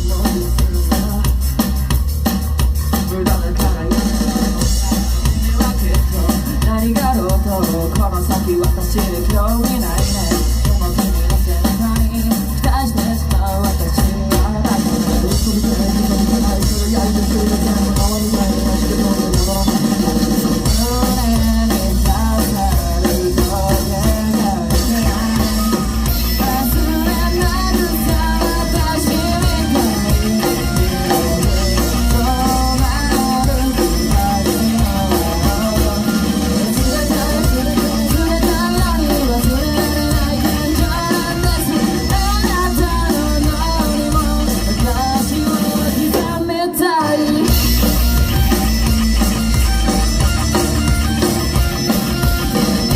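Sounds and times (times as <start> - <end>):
person singing: 0.0 - 1.9, 2.8 - 49.6
rock band playing live: 0.0 - 52.9.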